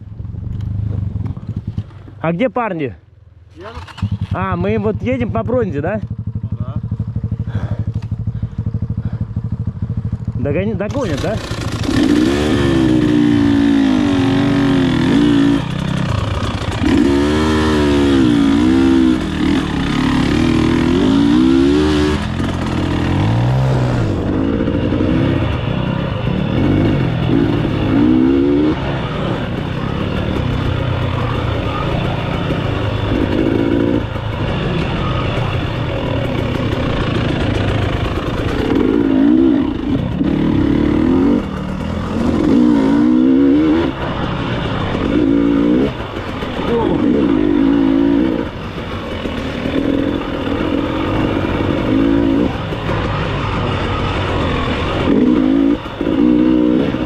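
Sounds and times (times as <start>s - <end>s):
motorcycle engine revving: 0.0s - 2.5s, 3.5s - 57.0s.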